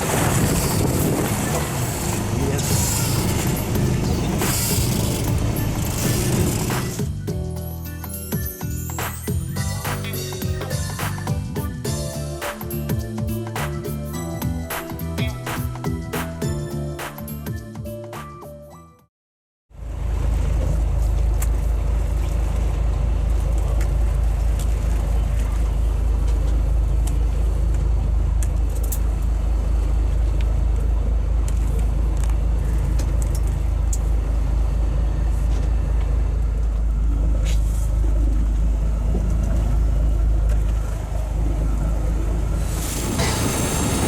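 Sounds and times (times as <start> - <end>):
boat engine rumbling: 0.0 - 17.0, 19.8 - 44.0.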